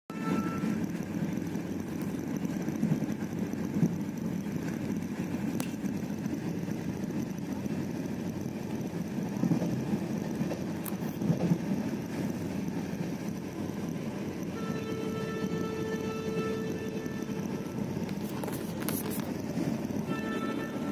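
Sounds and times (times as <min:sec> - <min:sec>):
train rumble from inside coach: 0:00.1 - 0:20.9.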